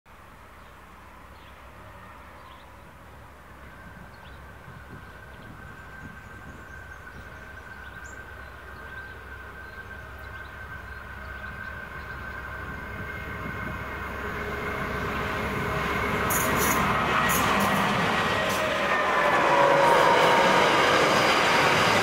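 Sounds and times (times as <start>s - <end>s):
diesel locomotive approaching: 0.4s - 22.0s.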